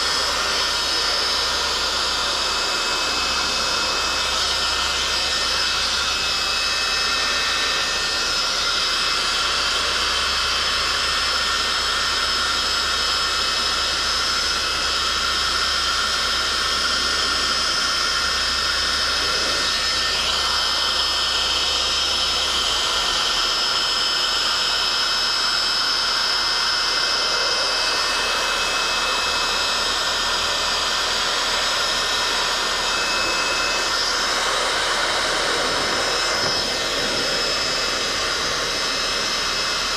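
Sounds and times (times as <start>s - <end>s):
heat gun blowing air: 0.0s - 39.9s.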